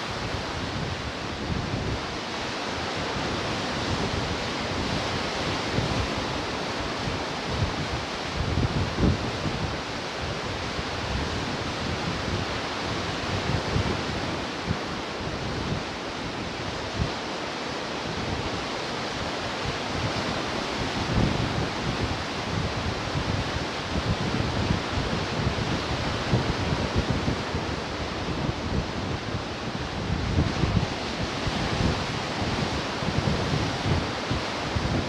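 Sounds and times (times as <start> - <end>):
wind buffeting microphone: 0.0 - 17.4, 18.0 - 35.0
ocean surf washing on shore: 0.0 - 35.0.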